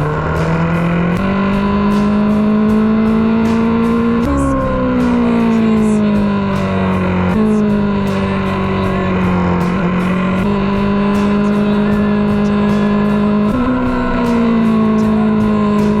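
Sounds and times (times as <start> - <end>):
background music: 0.0 - 16.0
motorcycle engine running hard: 0.0 - 16.0.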